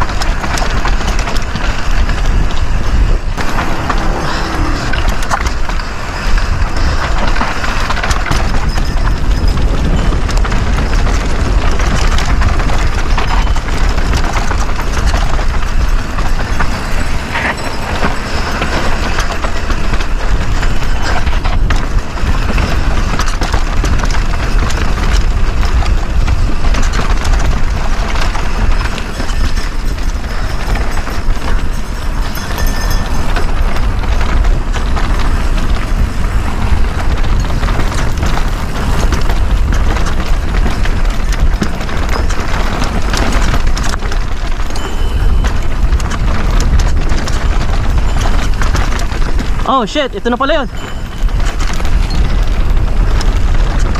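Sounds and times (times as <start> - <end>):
bike rattling over bumps: 0.0 - 53.9
tyres crunching over rock: 0.0 - 53.9
wind rushing over microphone: 0.0 - 53.9.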